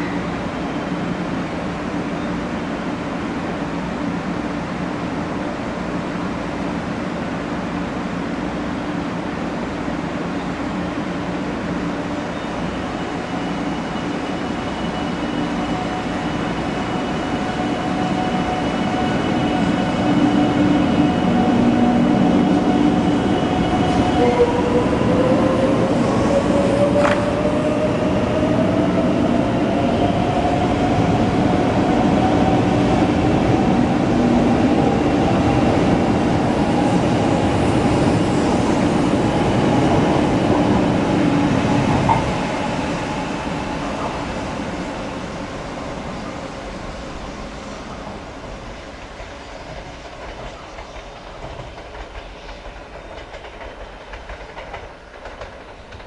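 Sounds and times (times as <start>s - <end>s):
train cars rumbling by: 0.0s - 56.0s.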